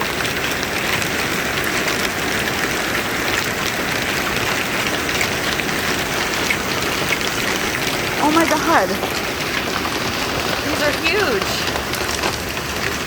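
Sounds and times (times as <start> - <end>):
hail and heavy rain pelting: 0.0 - 13.0.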